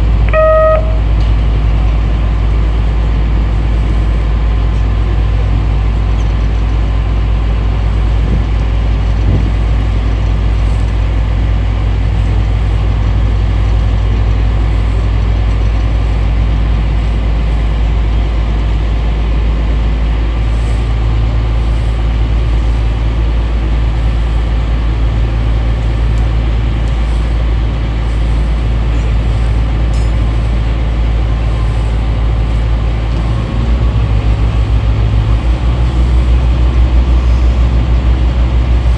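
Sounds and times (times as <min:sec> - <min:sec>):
wind buffeting microphone: 0:01.1 - 0:38.9.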